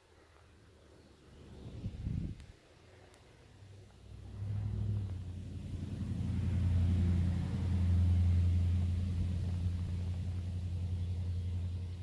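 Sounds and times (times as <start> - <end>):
low engine-like rumble: 0.4 - 12.0.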